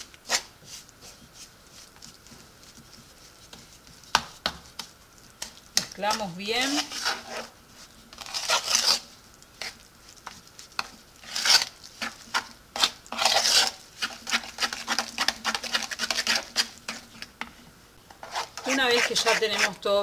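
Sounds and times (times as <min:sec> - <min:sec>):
spoon stirring batter in bowl: 0:00.0 - 0:20.0.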